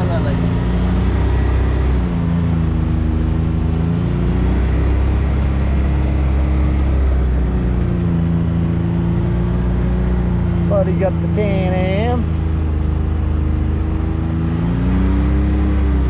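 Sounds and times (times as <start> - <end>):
engine running at cruising speed: 0.0 - 16.0.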